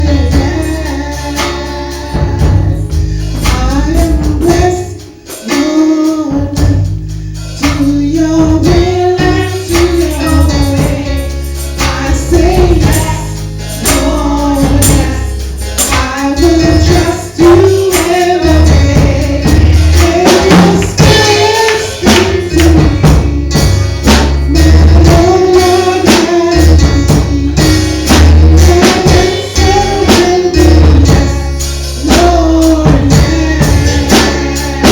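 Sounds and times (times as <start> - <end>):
gospel singing: 0.0 - 34.9
heavy bass line: 0.0 - 34.9
tambourine: 0.1 - 34.9.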